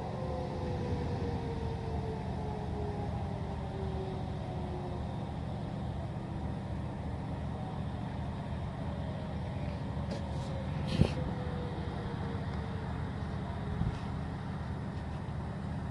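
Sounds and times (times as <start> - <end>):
distant warning siren winding down: 0.0 - 15.9.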